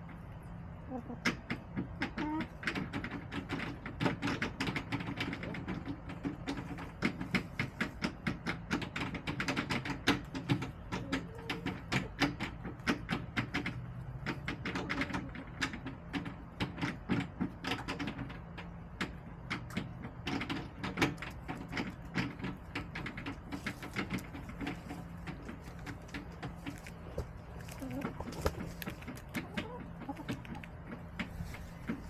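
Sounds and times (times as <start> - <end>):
chickens pecking at ground: 0.0 - 32.0.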